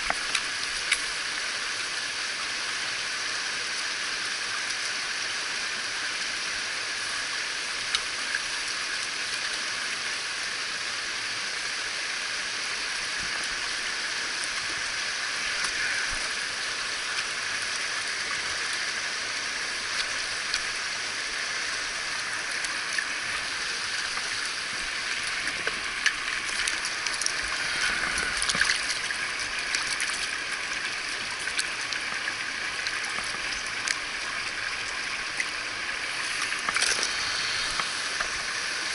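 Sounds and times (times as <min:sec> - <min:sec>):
sharp ticks and splashes: 0:00.0 - 0:38.9
stream rushing over rocks: 0:00.0 - 0:38.9.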